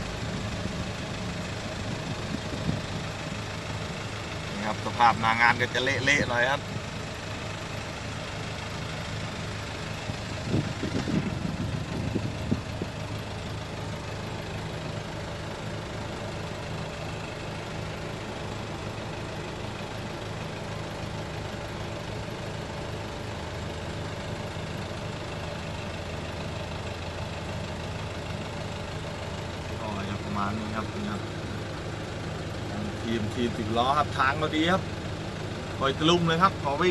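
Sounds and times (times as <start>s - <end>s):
diesel engine running: 0.0s - 36.9s
engine knocks and rattles: 0.0s - 36.9s.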